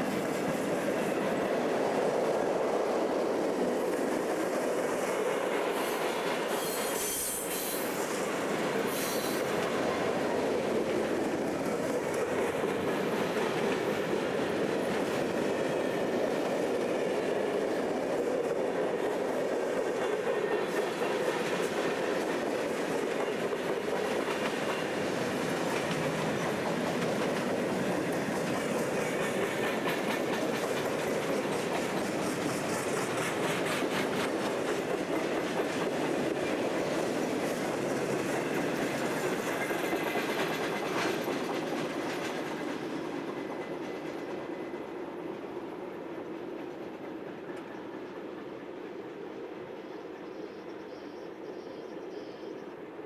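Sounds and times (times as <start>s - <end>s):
train wheels clicking over rail joints: 0.0s - 49.5s.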